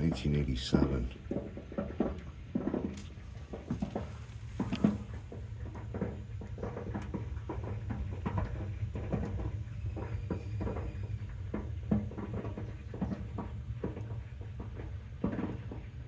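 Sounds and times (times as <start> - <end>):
low steady rumble: 0.0 - 16.0
water heater popping and crackling: 0.0 - 16.0.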